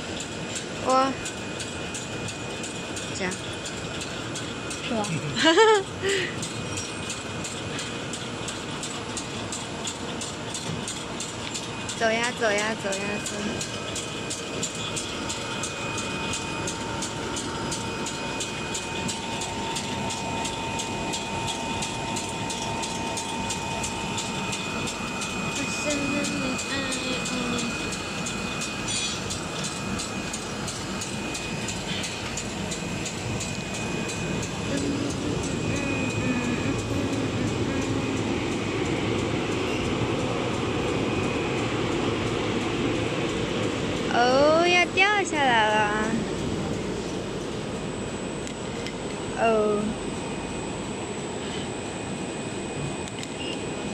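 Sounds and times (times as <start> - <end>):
machine running: 0.0 - 53.9
steady machine whine: 0.0 - 53.9.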